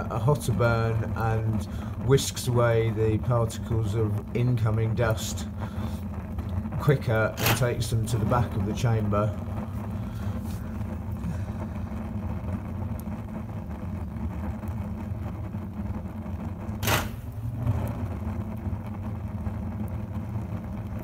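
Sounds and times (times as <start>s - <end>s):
heater hum and rumble: 0.0s - 21.0s
sharp crack: 0.0s - 21.0s.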